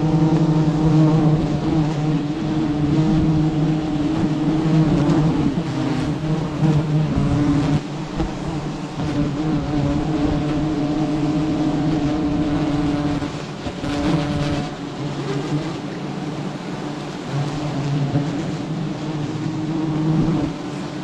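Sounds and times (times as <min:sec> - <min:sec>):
honeybee swarm buzzing: 0:00.0 - 0:21.0.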